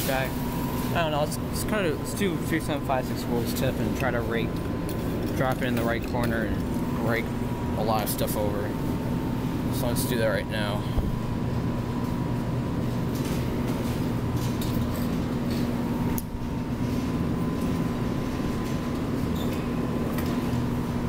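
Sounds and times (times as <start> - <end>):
claw crane machine motor hum: 0.0 - 21.0.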